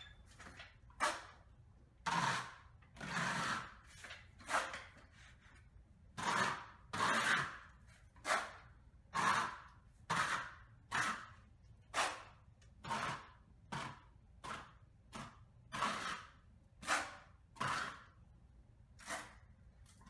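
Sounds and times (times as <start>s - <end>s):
taping knife scraping drywall: 0.2s - 20.0s.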